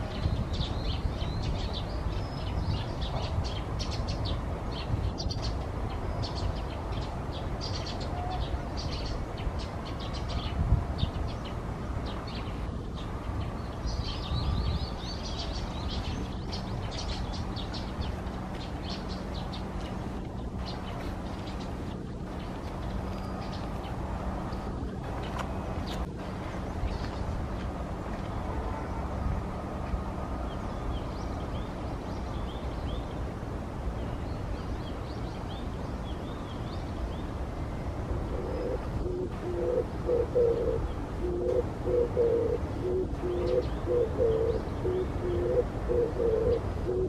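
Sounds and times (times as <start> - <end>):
songbirds chirping: 0.0 - 47.0
steady low rumble: 0.0 - 47.0.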